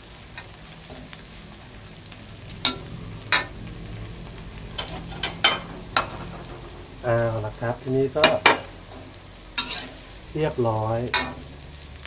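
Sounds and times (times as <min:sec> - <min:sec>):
omelette sizzling in oil: 0:00.0 - 0:12.0.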